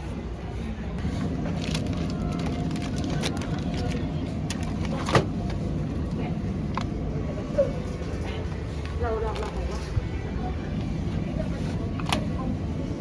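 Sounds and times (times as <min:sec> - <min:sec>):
steady low rumble: 0:00.8 - 0:13.0.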